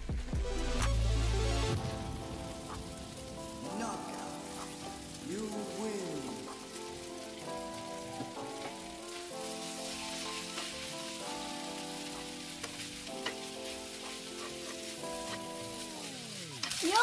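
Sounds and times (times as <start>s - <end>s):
background music: 0.0s - 17.0s
chicken and peppers sizzling in pan: 1.5s - 17.0s.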